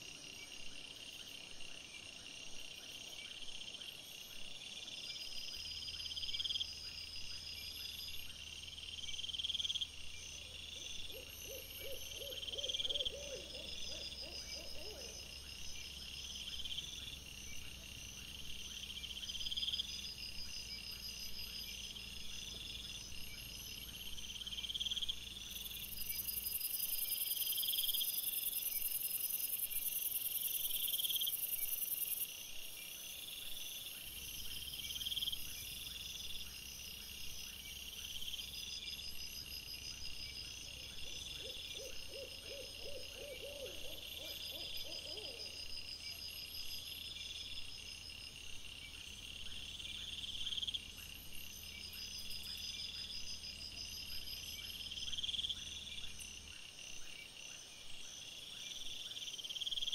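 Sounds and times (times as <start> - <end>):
high insect-like chirp: 0.0 - 59.9.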